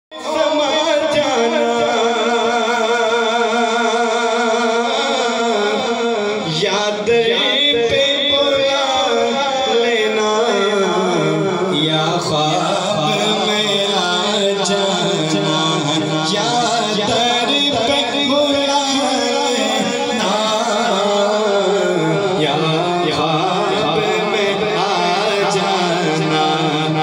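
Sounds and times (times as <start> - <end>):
man chanting through loudspeakers: 0.1 - 27.0.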